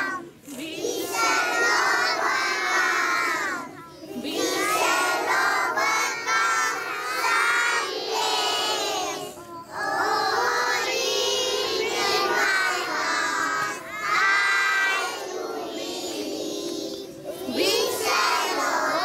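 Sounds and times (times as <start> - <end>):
children singing in unison: 0.0 - 19.0.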